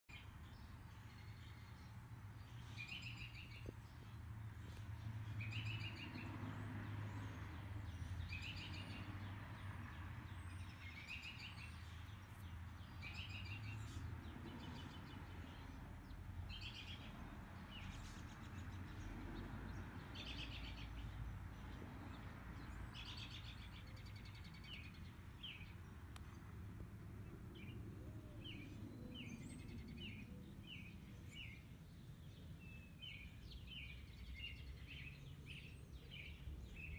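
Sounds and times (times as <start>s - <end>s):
birds chirping: 0.1s - 26.5s, 27.2s - 36.9s.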